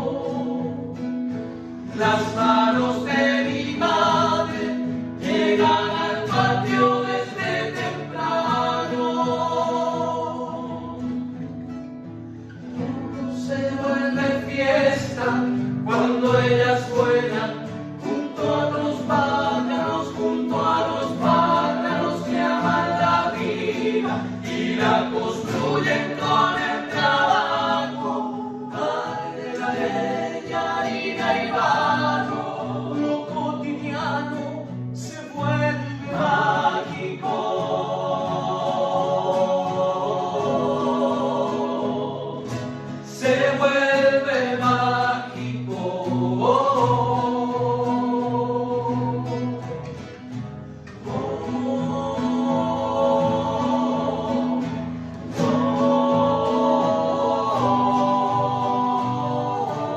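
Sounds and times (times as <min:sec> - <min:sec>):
choral singing: 0:00.0 - 0:11.7, 0:12.6 - 0:59.9.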